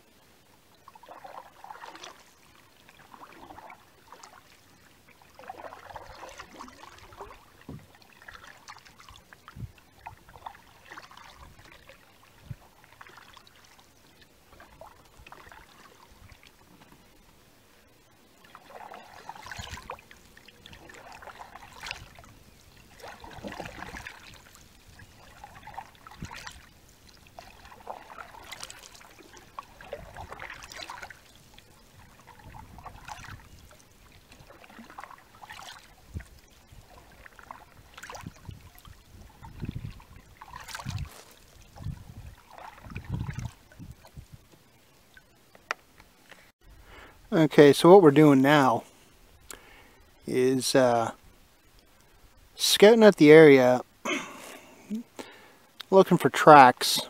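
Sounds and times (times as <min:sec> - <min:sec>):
water trickling off paddle: 0:00.6 - 0:57.0
paddle swishing and splashing: 0:00.8 - 0:46.5.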